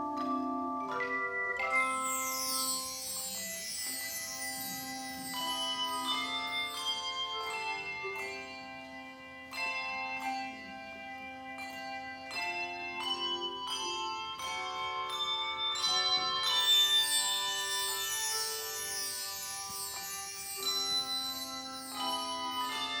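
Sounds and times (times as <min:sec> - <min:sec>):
handbells ringing in chords: 0:00.0 - 0:23.0.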